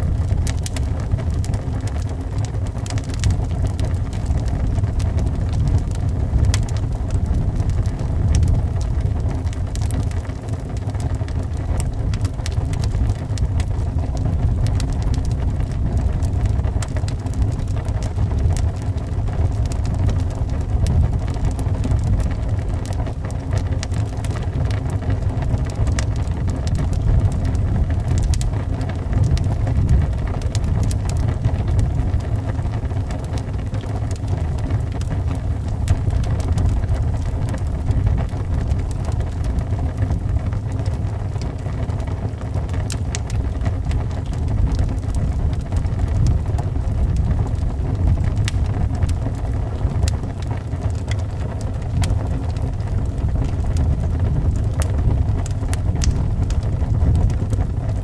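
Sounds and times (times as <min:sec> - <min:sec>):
wind rumbling around house: 0:00.0 - 0:58.0
wood fire crackling: 0:00.0 - 0:58.0.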